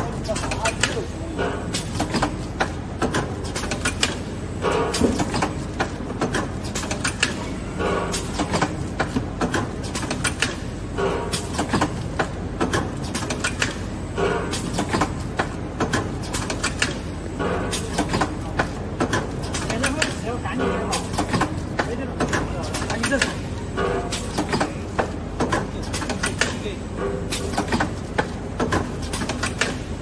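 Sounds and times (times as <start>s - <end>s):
packing machine clattering: 0.0s - 30.0s.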